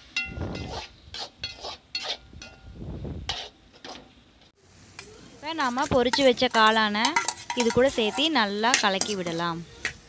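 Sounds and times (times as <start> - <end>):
metal spatula scraping a pan: 0.0 - 4.2, 5.5 - 10.0.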